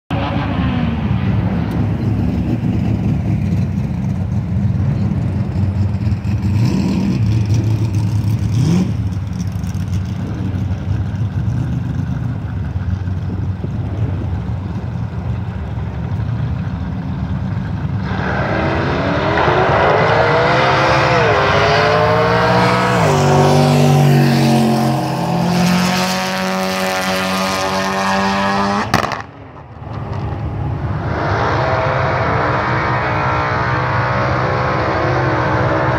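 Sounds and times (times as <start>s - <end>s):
car engine accelerating: 0.1s - 35.9s.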